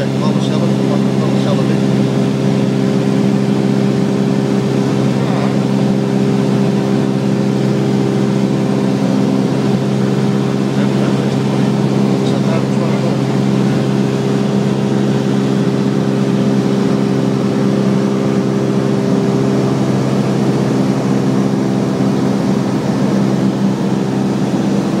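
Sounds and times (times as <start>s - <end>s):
light aircraft engine drone: 0.0s - 25.0s.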